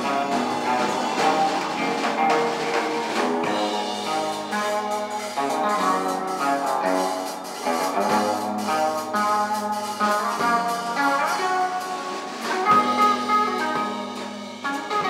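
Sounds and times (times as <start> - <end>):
drum kit with cymbals: 0.0 - 15.0
electric guitar melody: 0.0 - 15.0.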